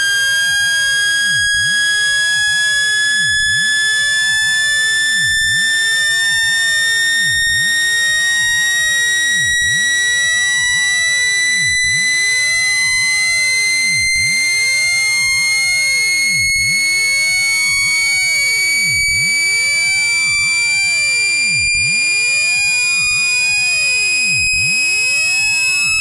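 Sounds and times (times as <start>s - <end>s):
shrill rising speaker tone: 0.0s - 26.0s.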